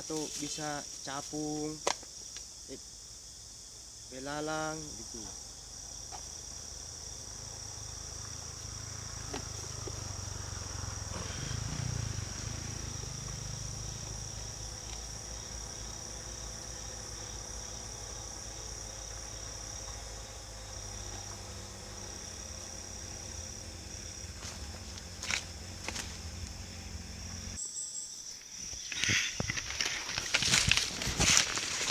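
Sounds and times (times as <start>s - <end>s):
insect trilling: 0.0s - 31.9s.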